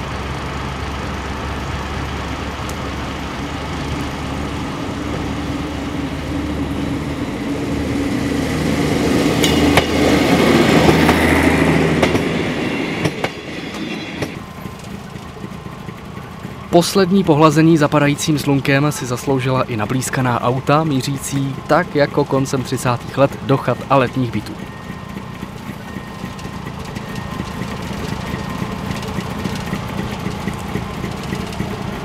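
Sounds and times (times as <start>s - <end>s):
diesel railcar engine drone: 0.0s - 32.0s
train wheels clicking over rail joints: 0.0s - 32.0s.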